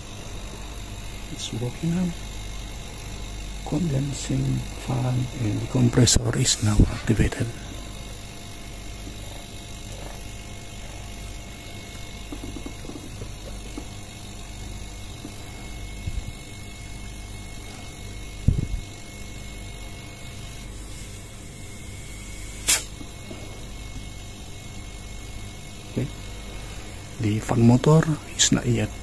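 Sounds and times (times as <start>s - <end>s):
refrigeration compressor humming: 0.0s - 29.0s.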